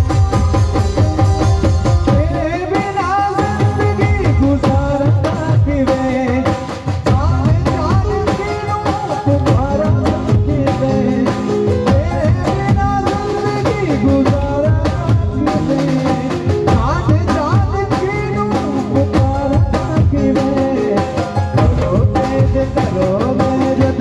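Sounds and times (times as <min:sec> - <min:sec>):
dhol drum: 0:00.0 - 0:24.0
drums: 0:00.0 - 0:24.0
keyboard: 0:00.0 - 0:24.0
man singing: 0:01.7 - 0:24.0.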